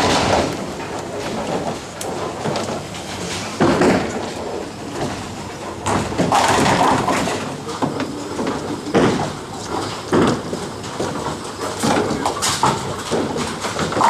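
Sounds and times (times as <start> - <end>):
bowling balls rumbling: 0.0 - 14.0
bowling pins crashing: 0.0 - 14.0.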